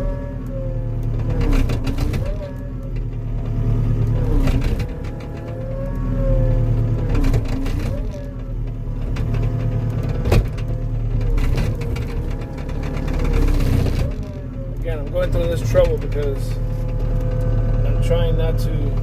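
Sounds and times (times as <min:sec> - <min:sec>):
skid steer engine under load: 0:00.0 - 0:19.0.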